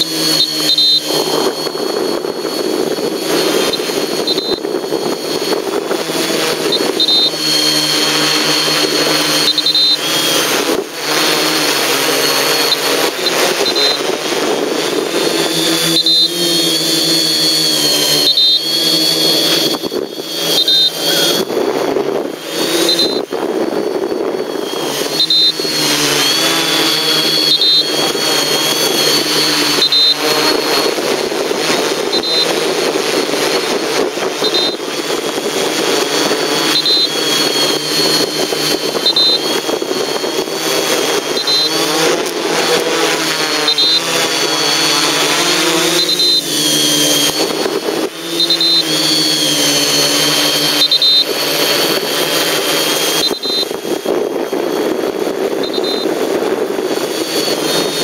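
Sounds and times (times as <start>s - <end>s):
quadcopter motors buzzing whine: 0.0s - 58.0s.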